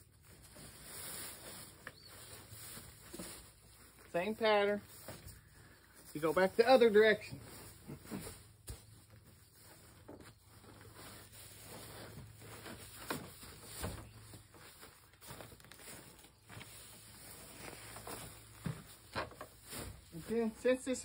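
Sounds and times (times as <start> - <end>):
dry hay rustling and scraping: 0.0 - 21.0
soft thumps of hay bales: 0.3 - 4.0, 7.4 - 20.6.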